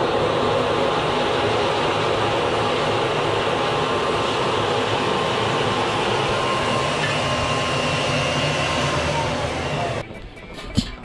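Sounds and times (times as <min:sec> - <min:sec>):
electric blower rushing air: 0:00.0 - 0:10.1.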